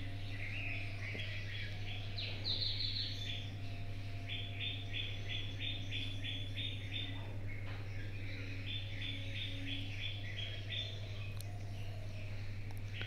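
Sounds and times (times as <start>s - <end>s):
bird chirping: 0.0s - 13.0s
low mains hum: 0.0s - 13.0s.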